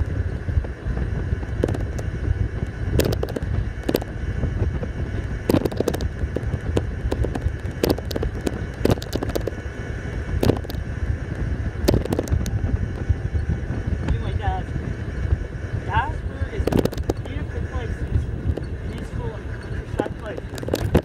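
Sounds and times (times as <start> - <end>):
wind rumble on microphone: 0.0 - 21.0
sharp pops and rattles: 1.4 - 14.3, 16.5 - 21.0.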